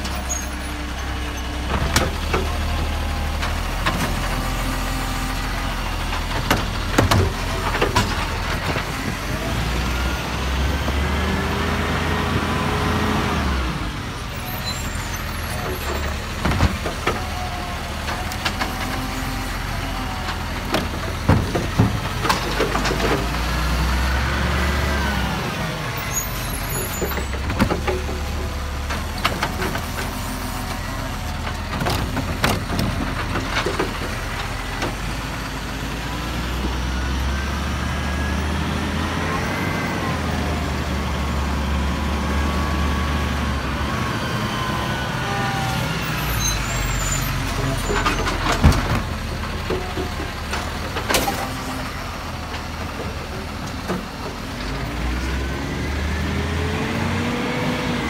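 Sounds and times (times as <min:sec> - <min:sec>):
garbage truck engine running: 0:00.0 - 0:58.0.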